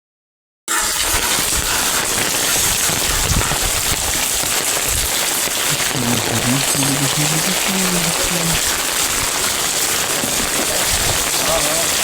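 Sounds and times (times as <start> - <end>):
heavy rain falling: 1.0 - 12.0.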